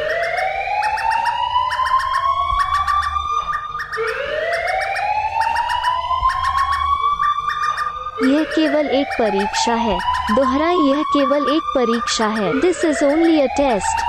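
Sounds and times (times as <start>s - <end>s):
siren-like alarm wail: 0.0s - 14.0s.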